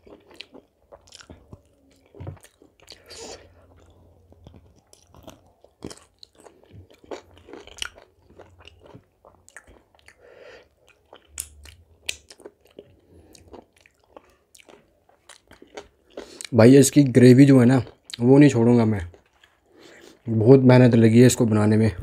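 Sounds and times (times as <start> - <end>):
chewing and biting food: 0.0 - 16.5, 19.1 - 20.3.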